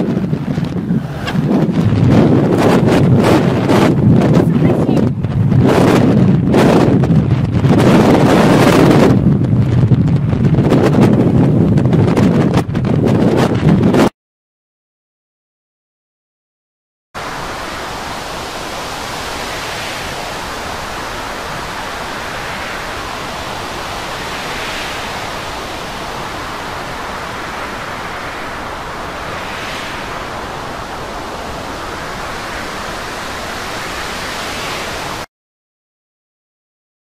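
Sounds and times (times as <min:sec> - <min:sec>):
rough sea breaking: 0:00.0 - 0:14.0, 0:17.2 - 0:35.3
wind rushing: 0:00.0 - 0:14.1, 0:17.2 - 0:35.3.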